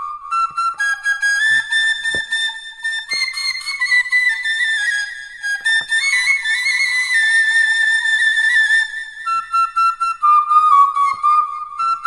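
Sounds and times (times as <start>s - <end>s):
bamboo flute melody: 0.0s - 12.0s.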